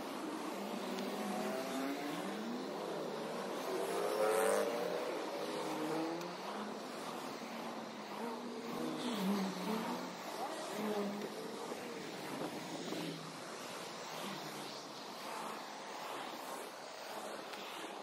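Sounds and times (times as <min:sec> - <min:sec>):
cars driving past: 0:00.1 - 0:17.9.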